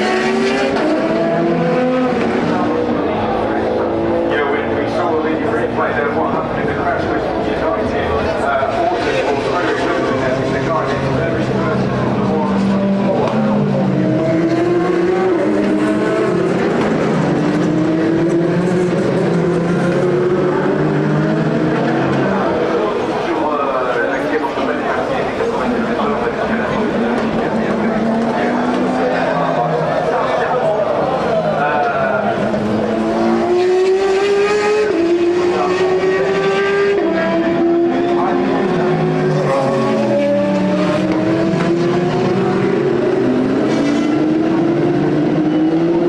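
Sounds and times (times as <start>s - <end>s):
race car engines at high revs: 0.0s - 46.0s.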